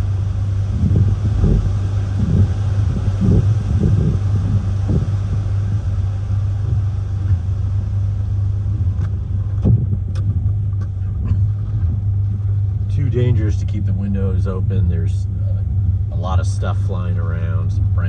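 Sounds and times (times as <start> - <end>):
wind buffeting a car: 0.0 - 18.0.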